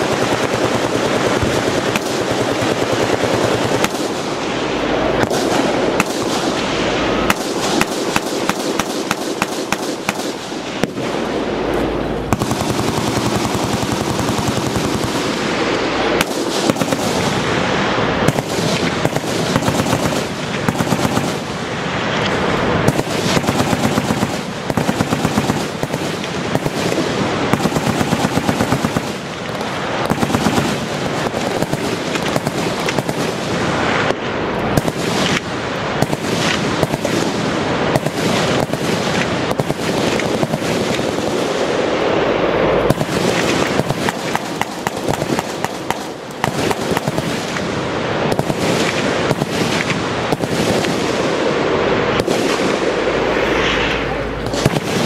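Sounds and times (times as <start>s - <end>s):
machine guns firing: 0.0s - 41.9s, 42.9s - 53.3s, 54.4s - 55.0s.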